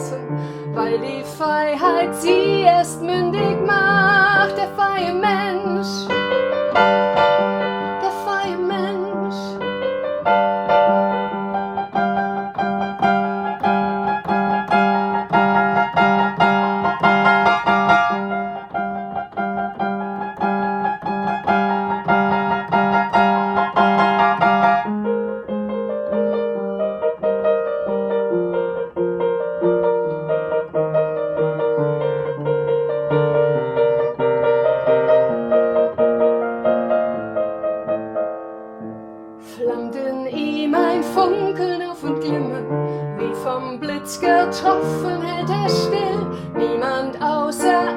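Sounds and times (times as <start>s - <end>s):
solo piano chords: 0.0s - 47.9s.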